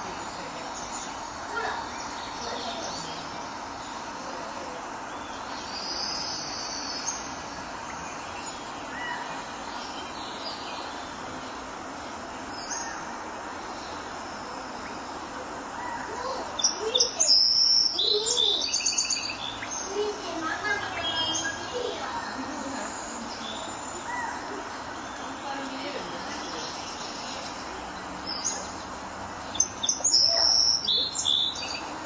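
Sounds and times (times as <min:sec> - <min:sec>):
small birds chirping: 0:00.0 - 0:32.0
steady background noise: 0:00.0 - 0:32.0.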